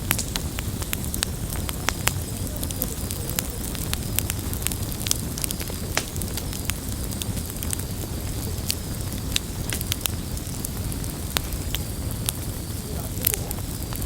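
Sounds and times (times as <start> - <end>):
burning wood crackling: 0.0 - 14.0
low rush of flame: 0.0 - 14.0.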